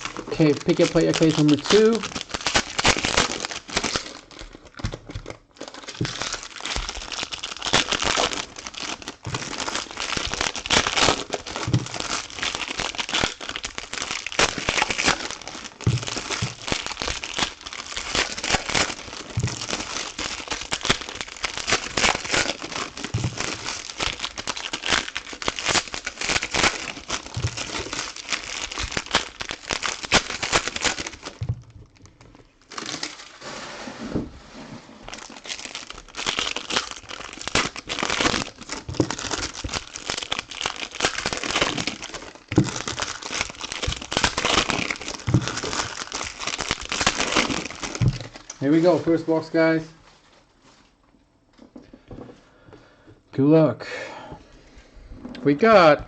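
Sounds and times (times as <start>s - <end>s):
plastic wrapping crinkling: 0.0s - 33.5s, 34.9s - 52.3s
plastic tearing: 0.0s - 33.6s, 34.9s - 49.8s.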